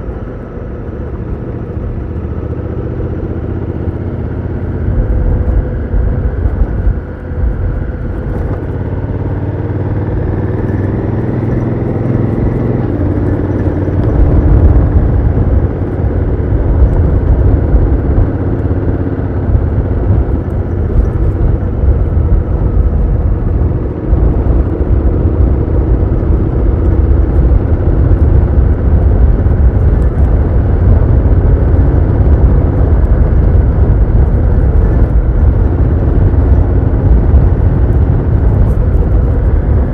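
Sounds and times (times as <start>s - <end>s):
heavy low rumble: 0.0s - 39.9s.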